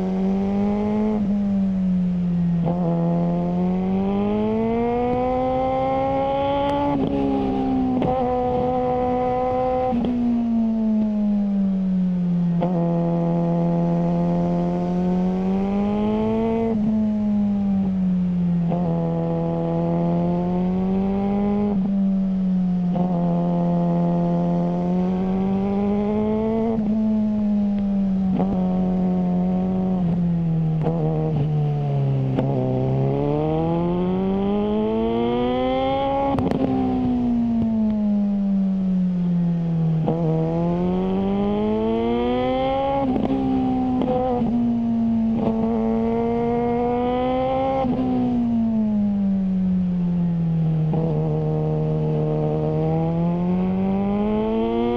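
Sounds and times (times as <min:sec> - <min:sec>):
motorcycle engine revving: 0:00.0 - 0:11.8, 0:12.4 - 0:54.9.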